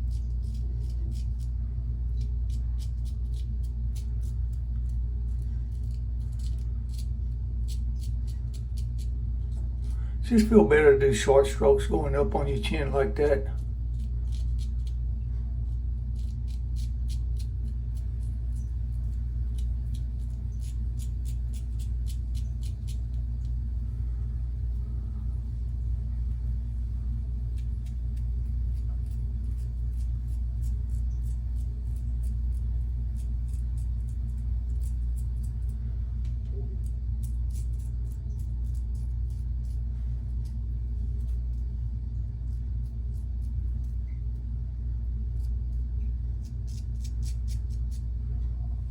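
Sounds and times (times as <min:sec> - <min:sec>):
razor scraping stubble: 0:00.0 - 0:25.4, 0:26.2 - 0:44.4, 0:45.3 - 0:48.1
steady low rumble: 0:00.0 - 0:48.9.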